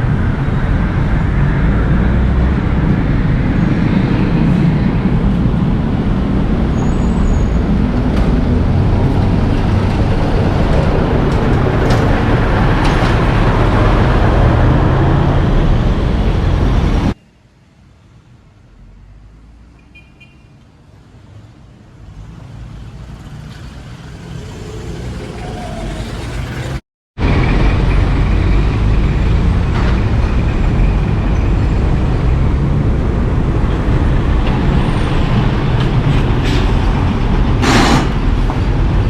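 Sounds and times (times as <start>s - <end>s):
heavy vehicles rumbling: 0.0s - 39.0s
quiet street traffic: 0.0s - 39.0s.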